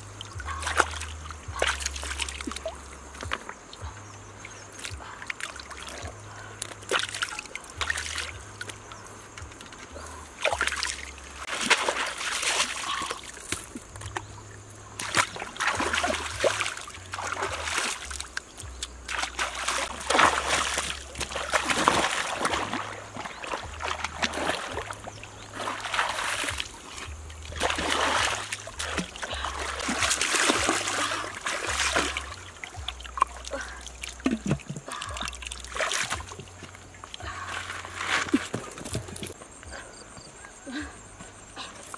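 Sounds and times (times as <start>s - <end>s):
river water splashing: 0.0s - 39.5s.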